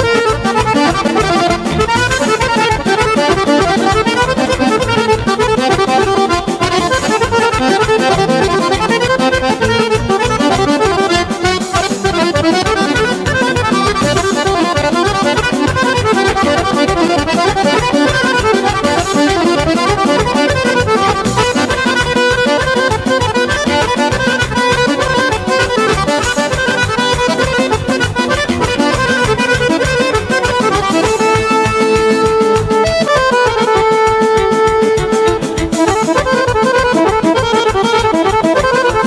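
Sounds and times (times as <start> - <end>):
folk band with accordion: 0.0 - 39.0.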